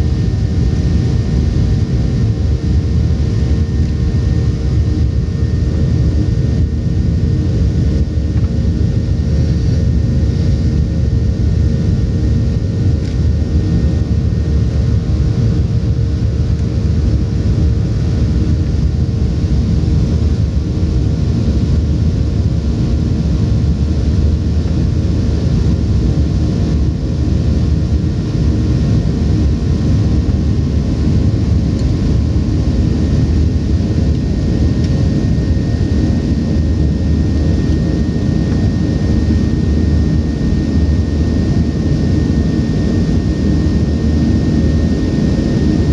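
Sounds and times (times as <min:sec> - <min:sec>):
airplane engine rumble in cabin: 0:00.0 - 0:45.9.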